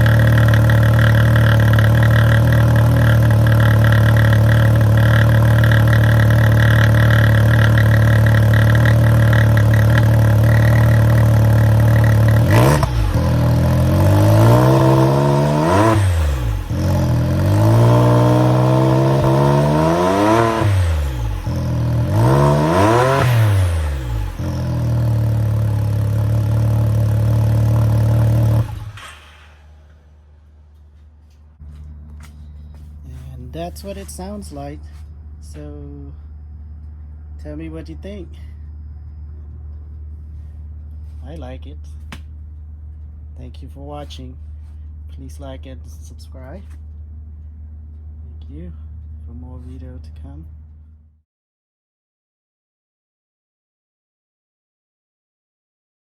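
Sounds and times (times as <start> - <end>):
engine idling and revving: 0.0 - 51.2.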